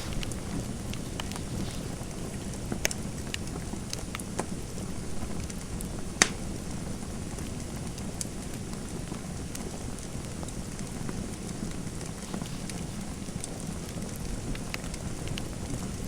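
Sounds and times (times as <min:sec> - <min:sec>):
fire crackling and popping: 0:00.0 - 0:16.0
low rumble of fire: 0:00.0 - 0:16.0.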